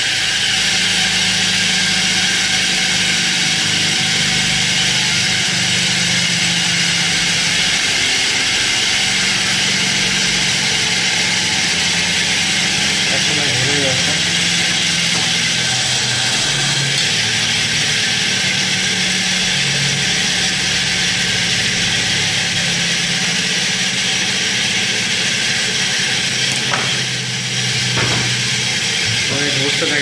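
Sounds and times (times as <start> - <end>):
steady whirring: 0.0 - 30.0.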